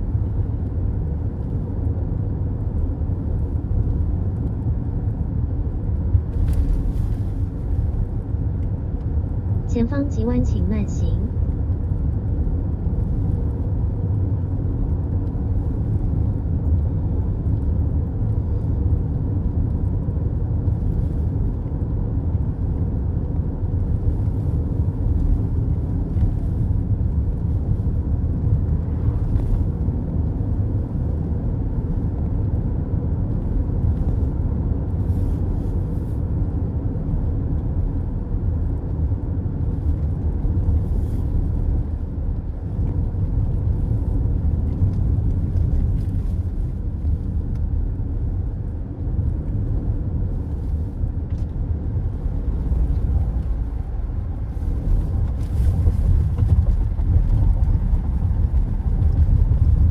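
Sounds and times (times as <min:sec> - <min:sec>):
car road rumble: 0:00.0 - 0:59.9.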